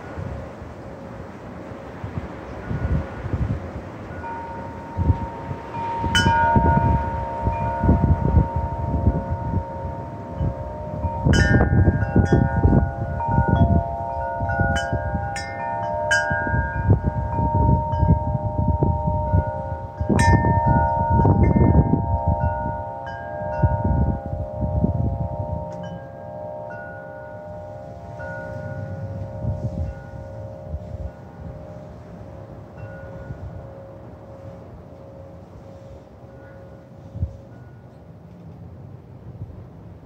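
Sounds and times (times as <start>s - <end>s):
gusts of wind: 0.0s - 40.0s
wind chimes ringing: 2.3s - 38.1s.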